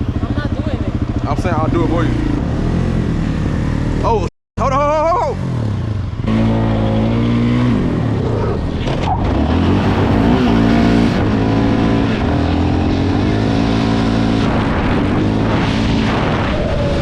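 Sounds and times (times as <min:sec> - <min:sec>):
dirt bike engine revving: 0:00.0 - 0:04.3, 0:05.3 - 0:17.0.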